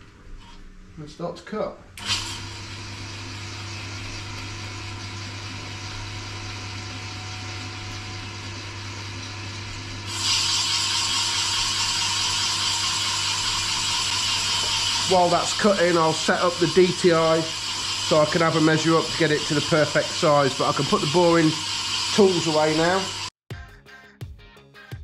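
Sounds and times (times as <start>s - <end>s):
boring bar cutting metal: 2.0s - 23.3s.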